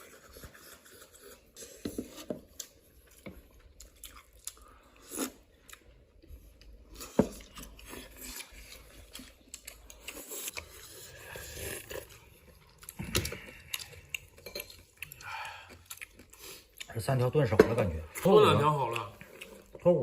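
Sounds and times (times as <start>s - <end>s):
person chewing food: 0.0s - 17.2s, 18.1s - 20.0s.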